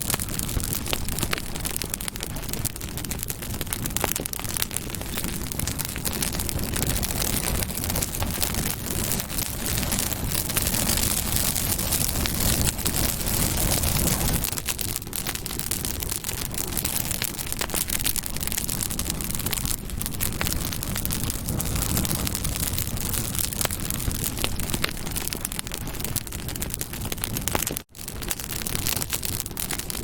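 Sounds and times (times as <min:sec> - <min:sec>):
campfire crackling and popping: 0:00.0 - 0:30.0
low rush of flame: 0:00.0 - 0:30.0.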